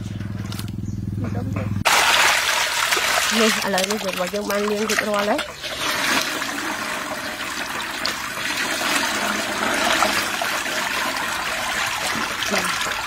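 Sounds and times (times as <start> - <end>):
water pouring and splashing: 1.8 - 13.0.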